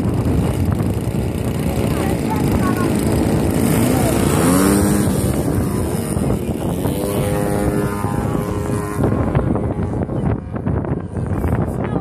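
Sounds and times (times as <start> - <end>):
model airplane engine drone: 0.0 - 12.0.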